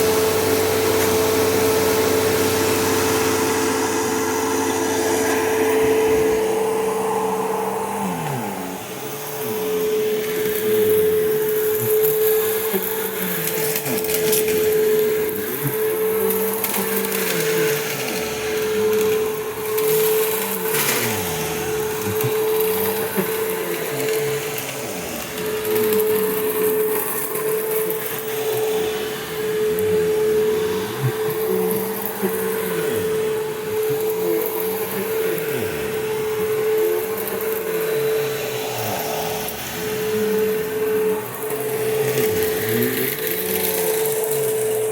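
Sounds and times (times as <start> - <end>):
upright vacuum cleaner running: 0.0 - 44.9.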